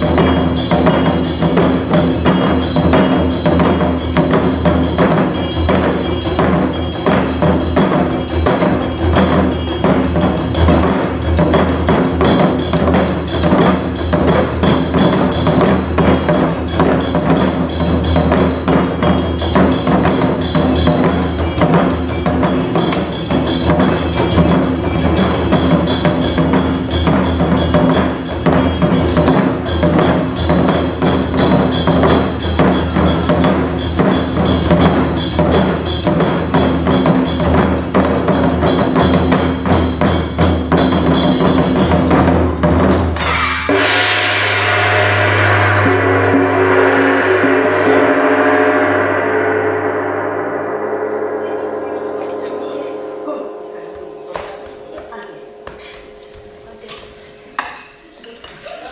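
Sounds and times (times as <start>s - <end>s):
instrumental backing with sustained tones: 0.0s - 58.0s
taiko drums playing: 0.0s - 58.0s.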